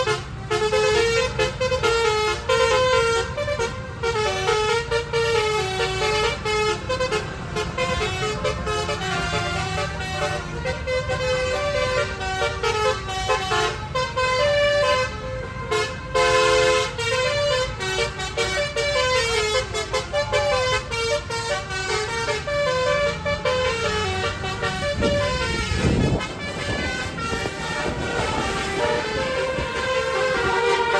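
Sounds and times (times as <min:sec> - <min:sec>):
bus engine running: 0:00.0 - 0:30.9
bus horn playing a tune: 0:00.0 - 0:30.9.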